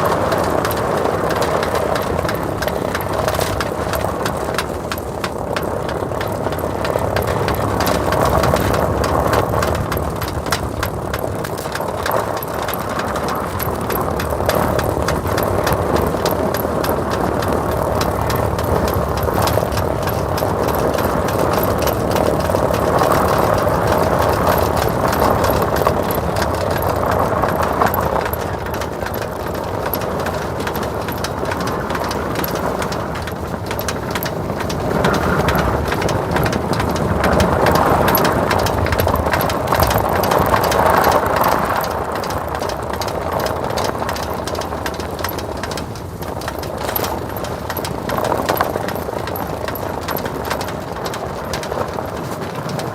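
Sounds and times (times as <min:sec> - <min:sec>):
snow chains rattling: 0:00.0 - 0:52.9
tyres crunching snow: 0:00.0 - 0:52.9
vehicle engine running: 0:00.0 - 0:52.9.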